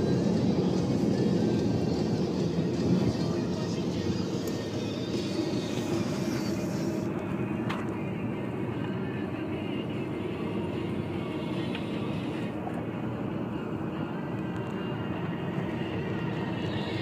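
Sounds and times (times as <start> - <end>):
car cabin road and engine noise: 0.0 - 17.0.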